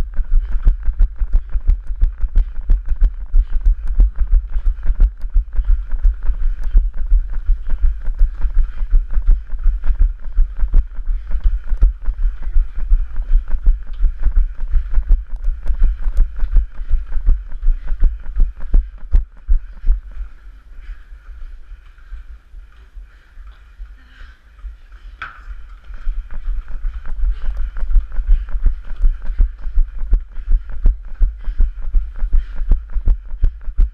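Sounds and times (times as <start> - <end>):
running footsteps on stone: 0.2 - 33.9.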